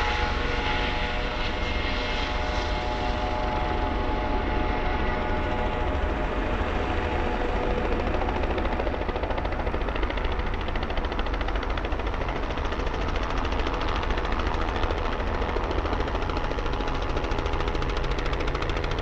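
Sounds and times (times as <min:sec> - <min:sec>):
engine drone: 0:00.0 - 0:19.0
helicopter rotor beating: 0:00.0 - 0:19.0.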